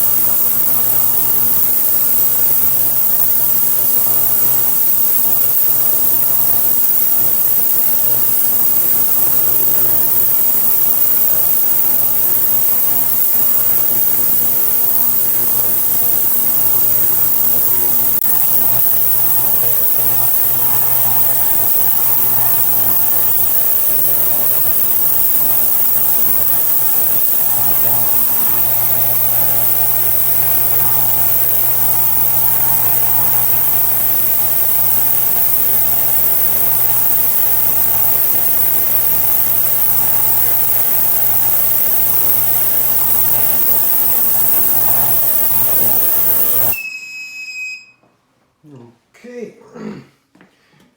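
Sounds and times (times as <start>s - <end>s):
ultrasonic cleaner buzzing hum: 0.0s - 47.9s.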